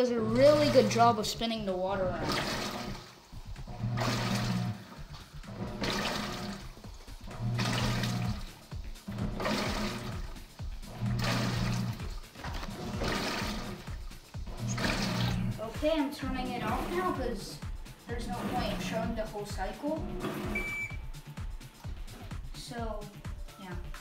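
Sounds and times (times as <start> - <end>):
washing machine motor humming: 0.0 - 22.8
water swishing in tub: 0.2 - 21.0.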